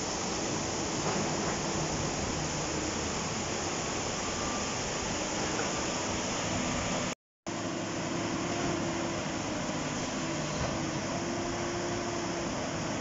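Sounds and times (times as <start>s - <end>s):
excavator diesel engine: 0.1s - 13.0s.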